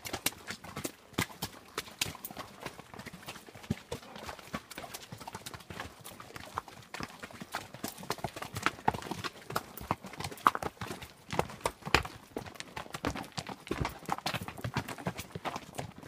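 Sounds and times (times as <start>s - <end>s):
horse hooves on rocky trail: 0.0s - 16.0s.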